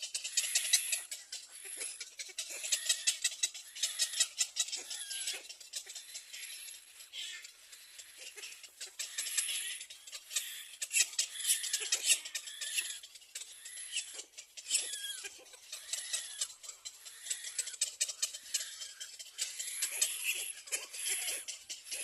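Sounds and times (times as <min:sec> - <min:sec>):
ducklings cheeping: 0:00.0 - 0:22.0.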